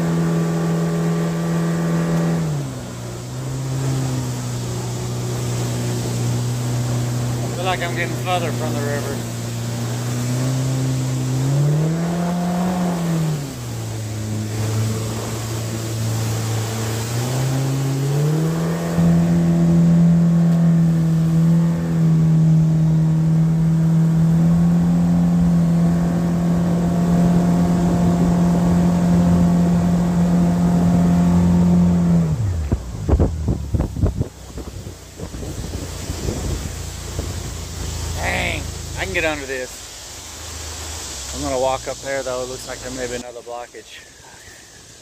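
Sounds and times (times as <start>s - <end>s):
outboard motor revving: 0.0s - 43.2s.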